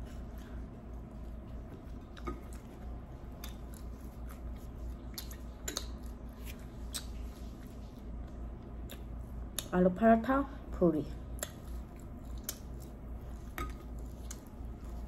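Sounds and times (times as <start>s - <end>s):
chewing crunchy fried food: 0.0s - 9.8s, 11.2s - 15.0s.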